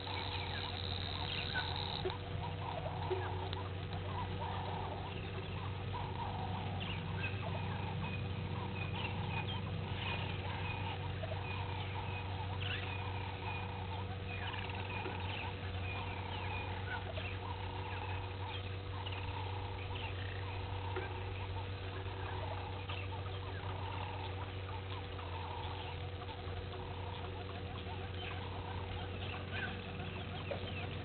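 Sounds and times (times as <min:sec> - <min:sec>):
birds chirping: 0:00.0 - 0:31.0
low bird call: 0:00.0 - 0:31.0
steady low hum: 0:00.0 - 0:31.0.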